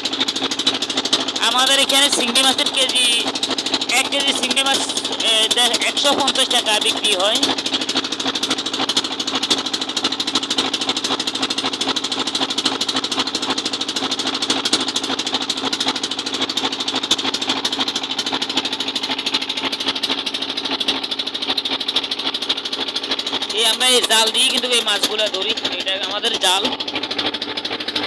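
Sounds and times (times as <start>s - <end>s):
boat engine chugging: 0.0s - 28.0s.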